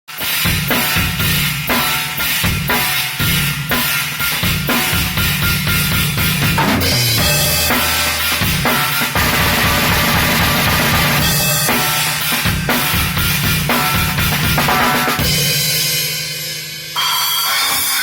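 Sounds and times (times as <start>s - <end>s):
drum kit playing fast: 0.1s - 18.0s.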